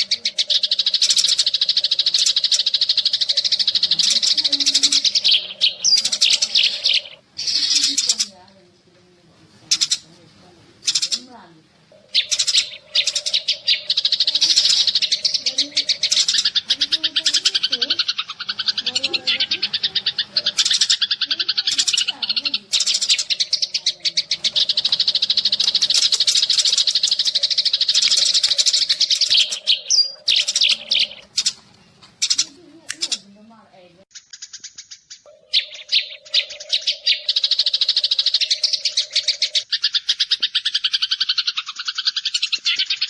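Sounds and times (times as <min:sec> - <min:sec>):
sparrows chirping: 0:00.0 - 0:43.0.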